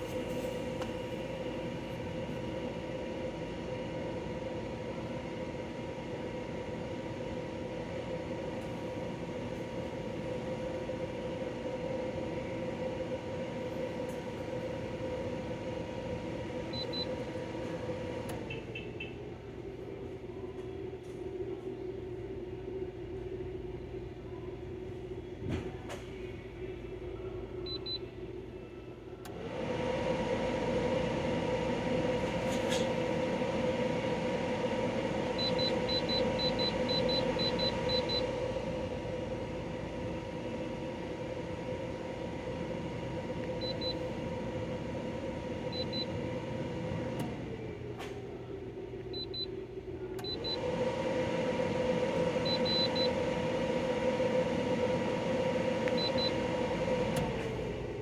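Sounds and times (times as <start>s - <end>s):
air conditioner motor hum: 0.0s - 58.0s.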